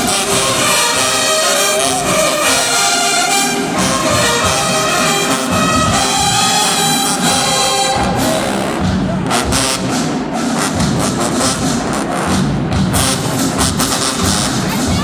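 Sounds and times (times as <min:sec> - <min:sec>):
crowd noise: 0:00.0 - 0:15.0
marching drumline playing: 0:00.0 - 0:15.0.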